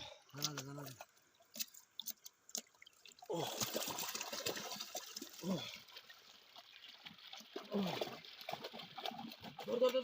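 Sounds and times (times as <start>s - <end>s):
shallow water splashing: 0.3s - 10.0s.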